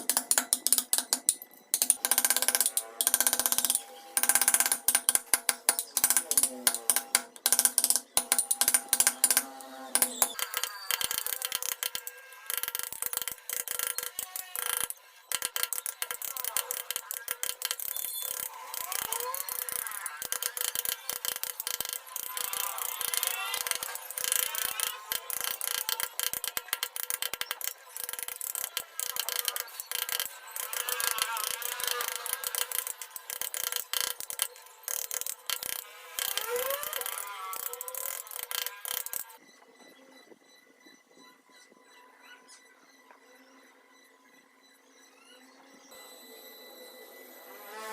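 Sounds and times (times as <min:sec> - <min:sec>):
carving tools scraping wood: 0:00.0 - 0:39.4.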